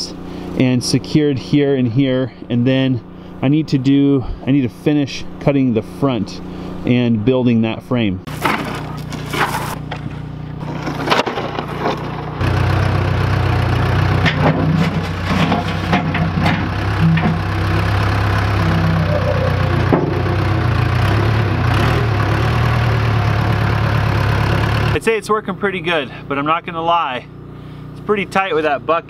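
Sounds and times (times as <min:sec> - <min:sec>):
diesel engine running: 0:00.0 - 0:07.0, 0:08.3 - 0:29.0.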